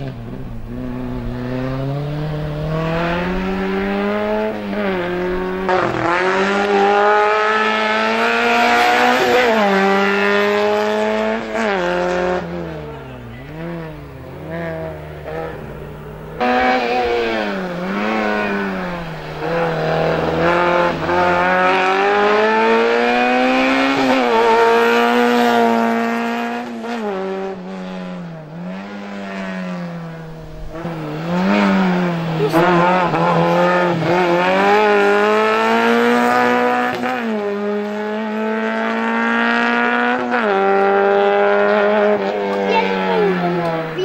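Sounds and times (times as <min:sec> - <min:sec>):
race car engine revving: 0:00.0 - 0:44.0.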